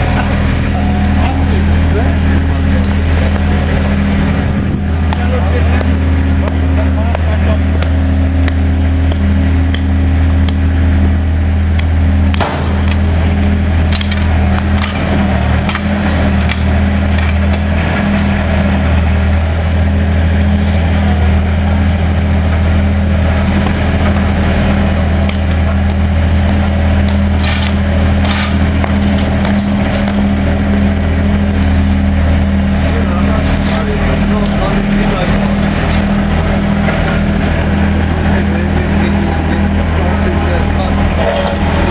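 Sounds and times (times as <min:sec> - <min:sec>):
vehicle engine humming: 0:00.0 - 0:41.9.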